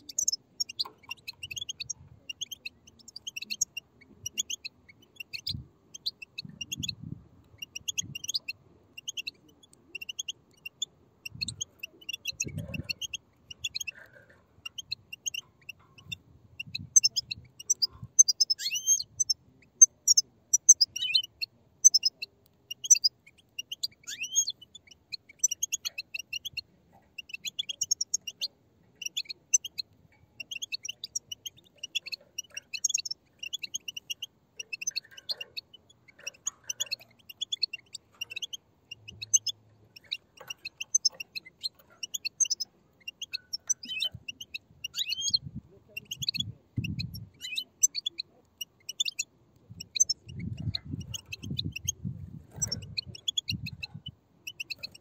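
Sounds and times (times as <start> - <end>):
chicks chattering begging calls: 0.0 - 55.0.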